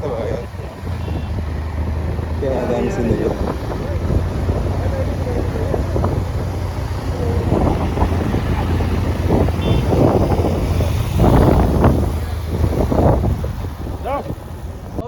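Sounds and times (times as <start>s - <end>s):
motorcycle engine hum: 0.0s - 15.0s
wind and road noise: 0.0s - 15.0s.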